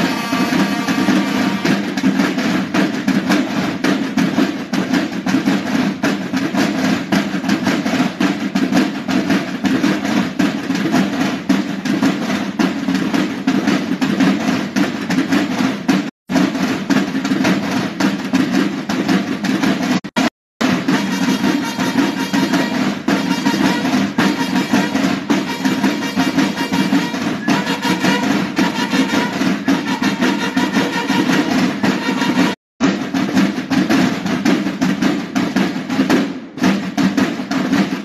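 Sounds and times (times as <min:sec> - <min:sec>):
marching band drums: 0:00.0 - 0:38.0.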